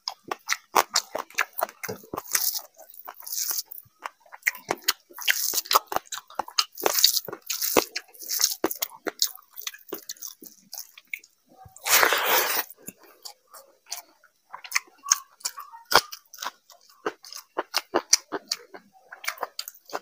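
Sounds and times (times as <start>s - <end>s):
open-mouthed chewing: 0.0s - 20.0s.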